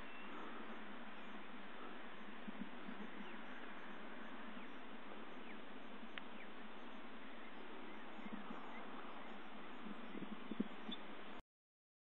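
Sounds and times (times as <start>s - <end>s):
faint bird chirps: 0.0s - 11.4s
steady open-air hiss: 0.0s - 11.4s.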